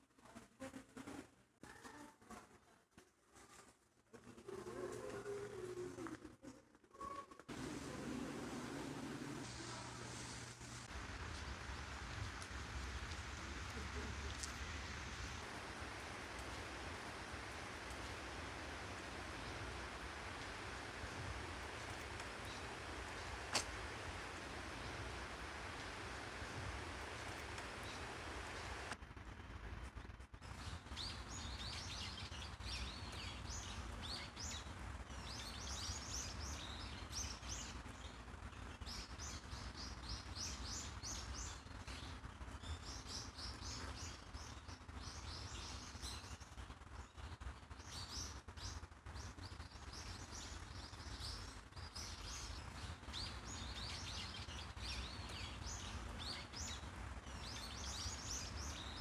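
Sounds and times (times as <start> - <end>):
small birds chirping: 4.3 - 29.0, 29.8 - 59.0
low steady rumble: 7.5 - 59.0.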